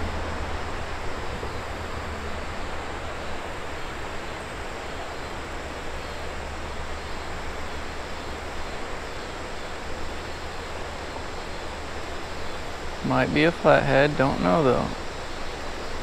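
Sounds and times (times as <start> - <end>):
shallow river rushing: 0.0 - 16.0.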